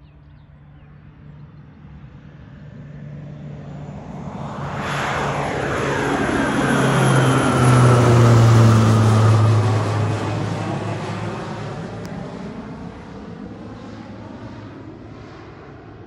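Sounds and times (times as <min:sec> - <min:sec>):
plane flying low overhead: 0:00.0 - 0:16.0.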